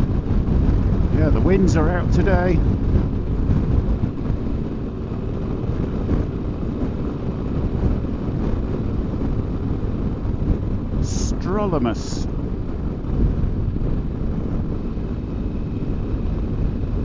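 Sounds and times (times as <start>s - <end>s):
motorcycle and road drone: 0.0s - 17.0s
wind rushing over microphone: 0.0s - 17.0s.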